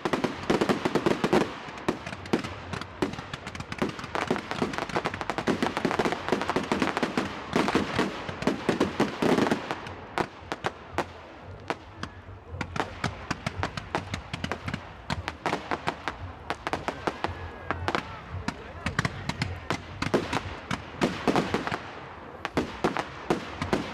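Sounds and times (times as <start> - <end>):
fireworks bangs and crackle: 0.0 - 23.9.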